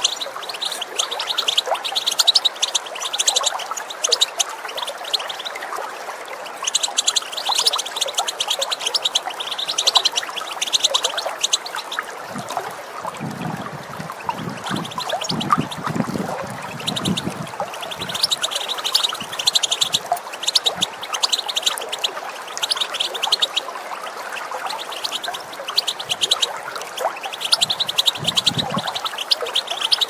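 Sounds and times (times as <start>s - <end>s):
goldfinch twittering: 0.0s - 5.6s, 6.2s - 12.5s, 14.1s - 30.0s
running water rushing: 0.0s - 30.0s.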